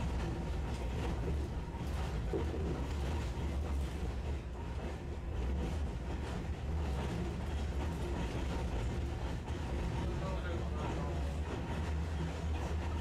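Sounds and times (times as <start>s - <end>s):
streetcar running rumble: 0.0s - 13.0s.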